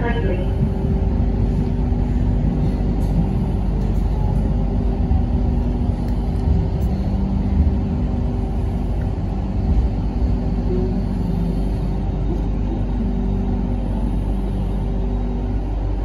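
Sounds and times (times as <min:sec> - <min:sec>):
light rail vehicle rumbling on track: 0:00.0 - 0:16.0.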